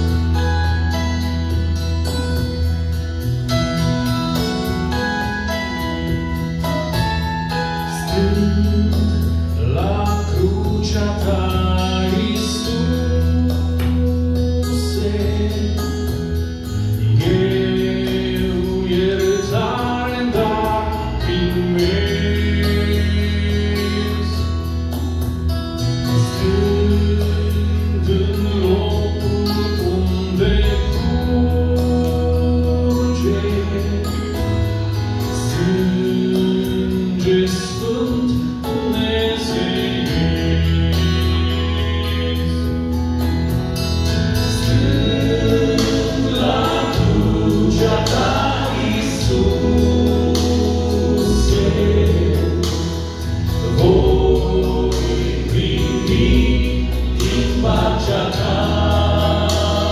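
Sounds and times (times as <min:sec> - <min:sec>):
instrumental accompaniment: 0:00.0 - 0:59.9
men singing a hymn in harmony: 0:07.0 - 0:25.0, 0:25.8 - 0:59.9.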